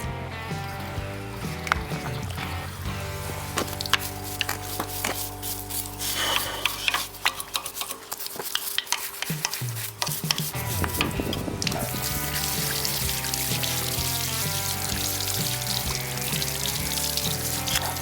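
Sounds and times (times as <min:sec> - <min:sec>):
cleaning foam fizzing and popping: 0:00.4 - 0:18.0.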